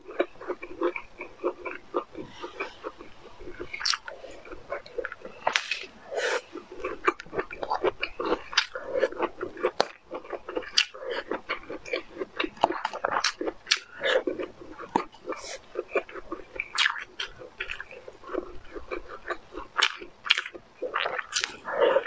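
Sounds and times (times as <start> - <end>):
chewing crunchy vegetables: 0.0 - 22.0.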